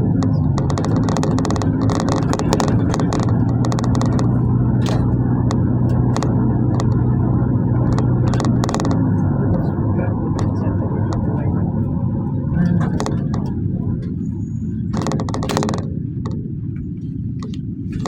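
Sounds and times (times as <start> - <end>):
minibus engine droning: 0.0 - 18.0
rattles from vehicle body: 0.0 - 18.0
road noise: 0.0 - 18.0.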